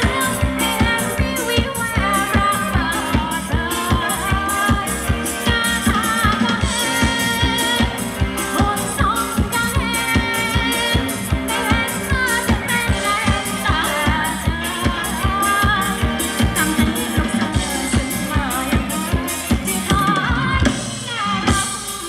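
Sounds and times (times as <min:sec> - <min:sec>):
person singing: 0:00.0 - 0:22.0
steady drum beat: 0:00.0 - 0:22.0.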